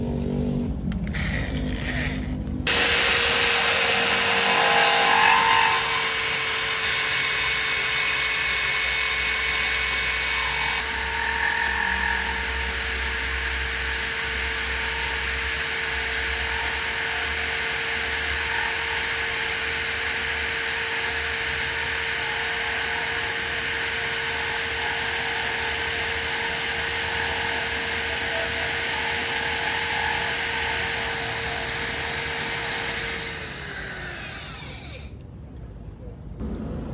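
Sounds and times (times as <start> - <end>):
electric drill whining: 1.0 - 35.2.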